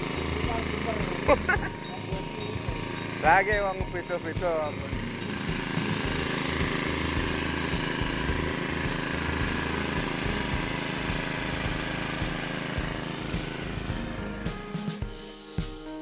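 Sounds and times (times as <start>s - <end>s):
small petrol engine running: 0.0s - 15.2s.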